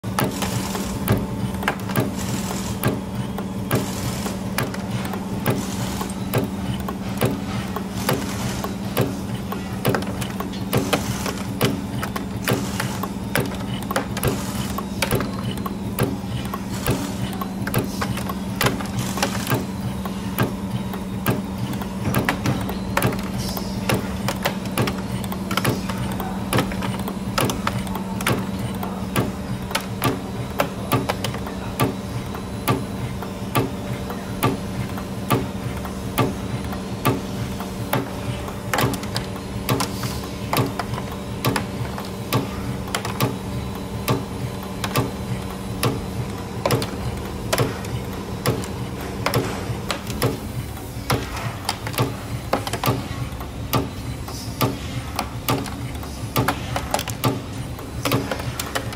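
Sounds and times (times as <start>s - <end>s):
spring machine humming: 0.0s - 58.9s
sharp machine clicks: 0.1s - 58.9s.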